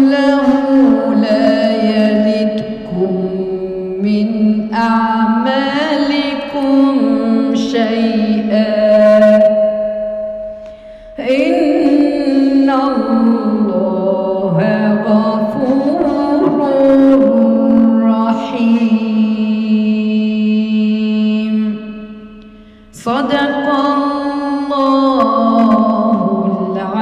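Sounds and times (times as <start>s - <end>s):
woman chanting recitation: 0.0s - 9.5s, 11.2s - 21.9s, 22.9s - 27.0s.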